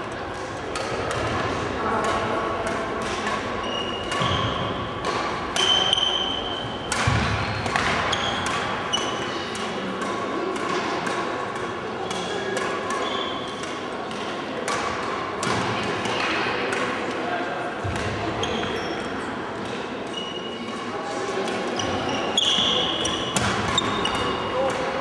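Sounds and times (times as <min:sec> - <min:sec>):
murmur of voices: 0:00.0 - 0:25.0
racket hitting shuttlecock: 0:00.3 - 0:17.2, 0:17.8 - 0:19.9, 0:21.4 - 0:25.0.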